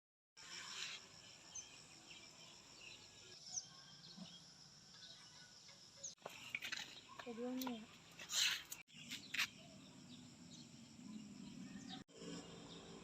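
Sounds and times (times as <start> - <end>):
bird chirps: 0.6 - 13.0.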